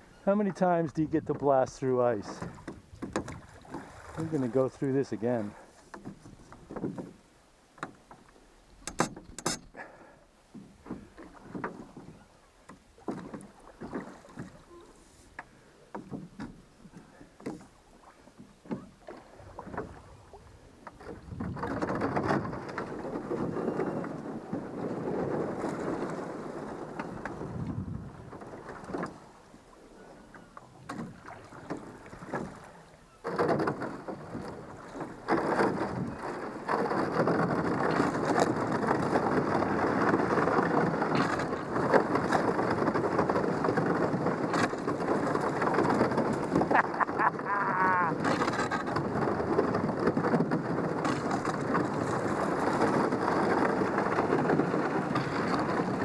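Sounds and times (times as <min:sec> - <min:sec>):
oars clicking and splashing: 0:00.0 - 0:56.0.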